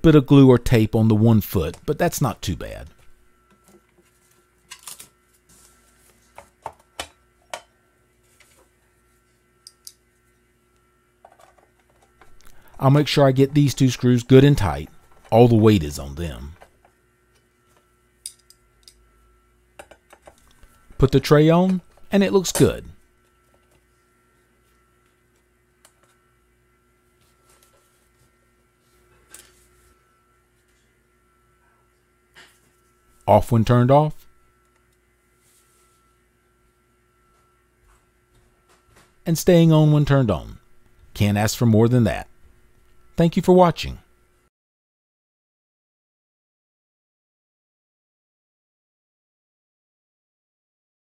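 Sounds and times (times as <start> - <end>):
faint steady hum: 0.0 - 44.5.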